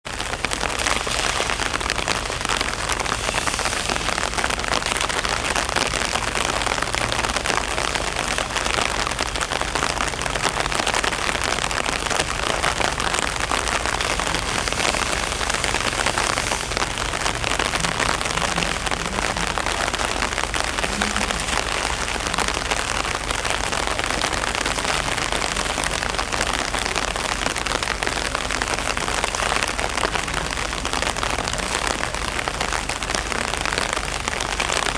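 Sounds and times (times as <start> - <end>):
rain on sand and concrete: 0.0 - 34.9.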